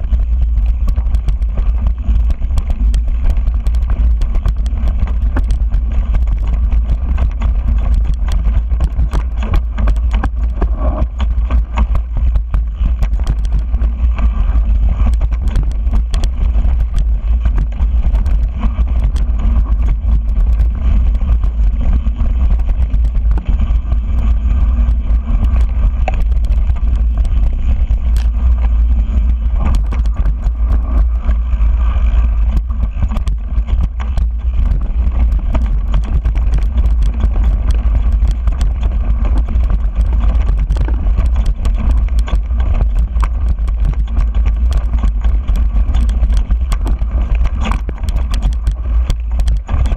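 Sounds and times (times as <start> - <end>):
bike clicks and rattles: 0.0 - 49.9
wind buffeting microphone: 0.0 - 49.9.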